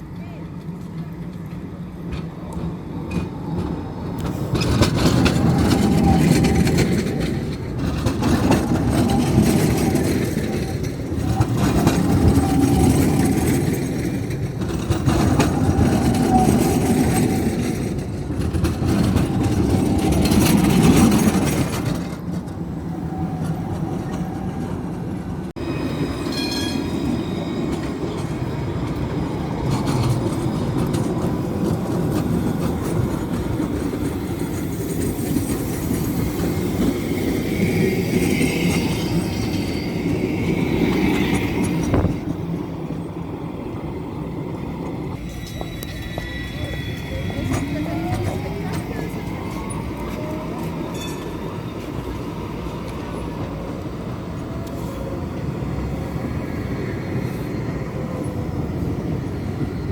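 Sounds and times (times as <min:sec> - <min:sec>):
tram rolling on rails: 0:00.0 - 0:59.9.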